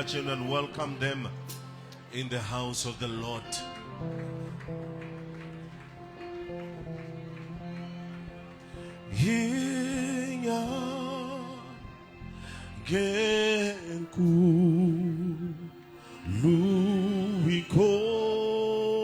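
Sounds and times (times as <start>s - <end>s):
soft instrumental backing: 0.0s - 19.0s.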